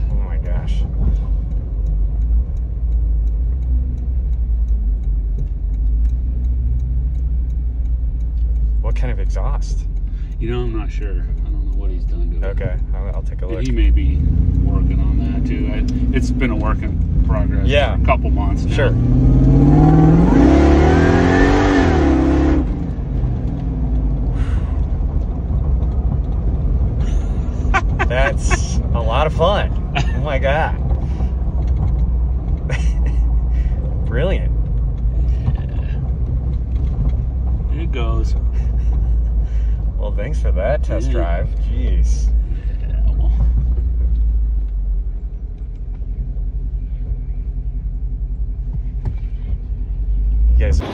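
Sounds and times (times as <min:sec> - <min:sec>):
engine rumble inside cabin: 0:00.0 - 0:50.9.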